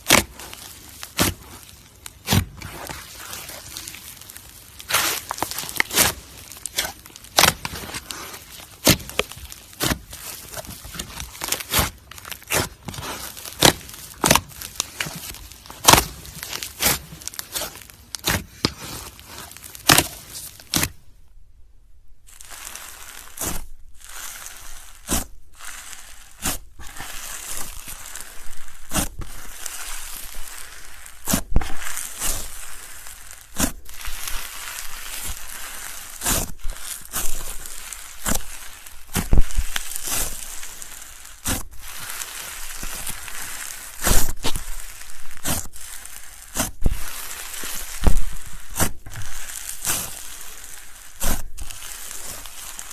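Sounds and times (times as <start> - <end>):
crunchy slime being squeezed: 0.0 - 21.0, 22.3 - 52.9.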